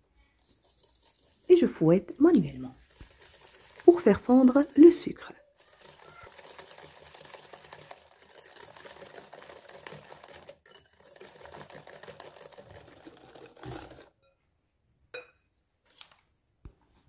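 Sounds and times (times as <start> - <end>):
whisk beating in glass bowl: 0.4 - 14.1.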